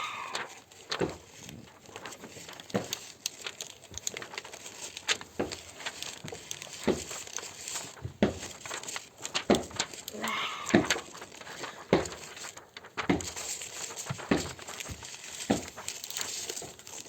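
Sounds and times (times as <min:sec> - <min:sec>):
crinkling and crackling: 0:00.0 - 0:17.0
scattered clicks and rustles: 0:00.0 - 0:17.0.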